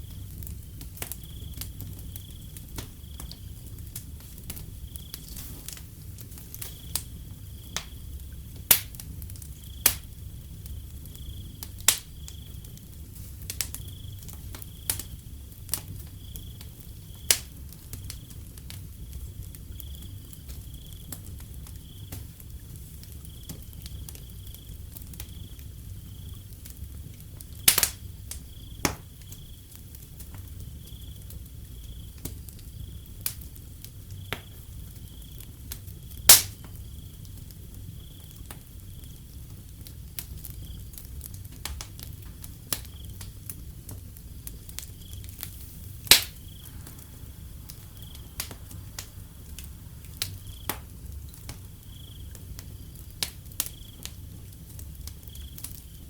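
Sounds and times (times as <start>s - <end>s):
crickets chirping: 0.0s - 56.0s
wood fire crackling and popping: 0.0s - 56.0s.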